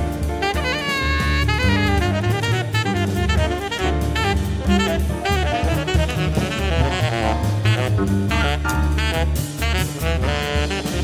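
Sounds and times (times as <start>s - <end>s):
jazz with saxophone and drums: 0.0s - 11.0s.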